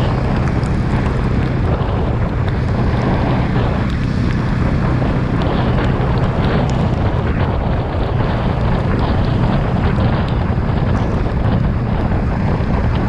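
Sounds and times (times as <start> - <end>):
motorcycle engine droning: 0.0 - 13.0
wind rushing over microphone: 0.0 - 13.0.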